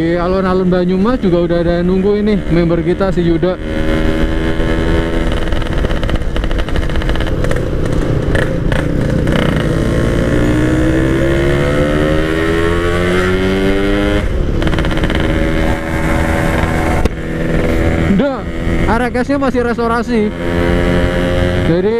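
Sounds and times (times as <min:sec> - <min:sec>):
two-stroke motorcycle engine: 0:00.8 - 0:21.9.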